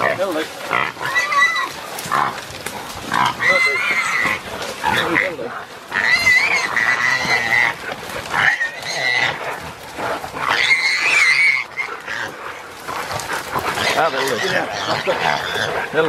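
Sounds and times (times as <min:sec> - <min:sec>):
pig squealing: 0:00.0 - 0:16.0.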